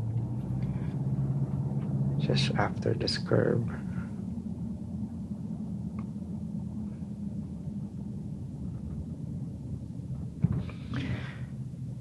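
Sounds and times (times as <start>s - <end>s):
car engine and road noise: 0.0s - 10.5s.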